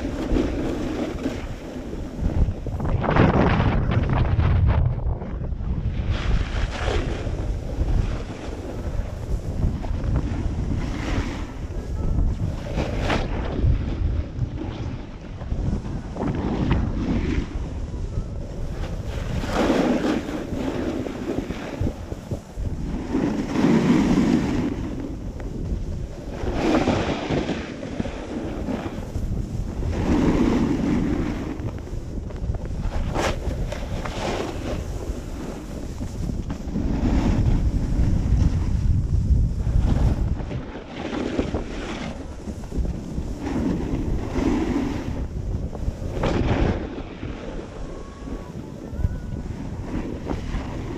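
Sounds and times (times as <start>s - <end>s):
snowboard edge scraping snow: 0.0s - 4.6s, 6.0s - 47.9s, 49.4s - 50.9s
wind rushing over microphone: 0.0s - 50.9s.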